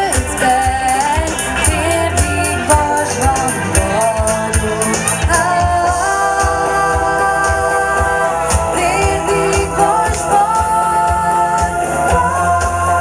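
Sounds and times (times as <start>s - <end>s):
drum beat with cymbals: 0.0s - 13.0s
electric guitars: 0.0s - 13.0s
keyboard: 0.0s - 13.0s
women singing in harmony: 0.0s - 13.0s.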